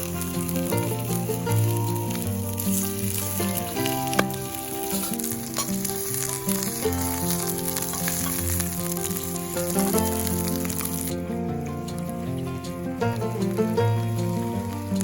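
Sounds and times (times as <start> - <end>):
background music of held notes: 0.0 - 15.0
food sizzling in a pan: 0.0 - 15.0.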